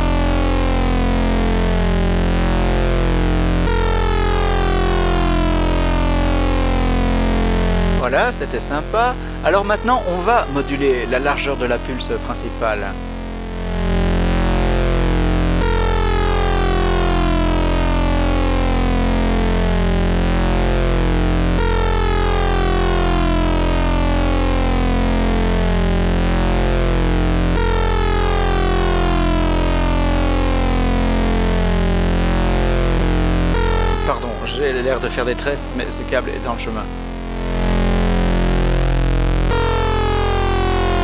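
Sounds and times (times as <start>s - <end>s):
synthesizer low drone: 0.0s - 41.0s.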